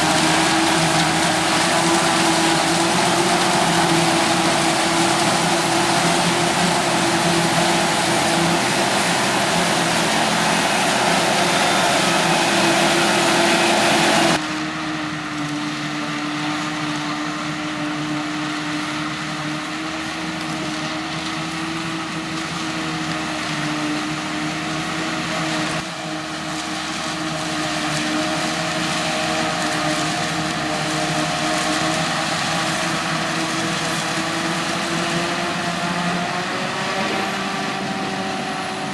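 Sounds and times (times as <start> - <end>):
harvester and tractor engines running: 0.0 - 38.9.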